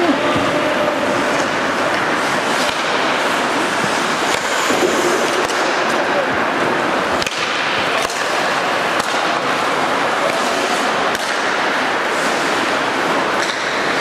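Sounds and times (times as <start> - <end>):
skates hissing on ice: 0.3 - 7.2, 9.2 - 14.0
hockey sticks and puck clacking: 1.1 - 14.0.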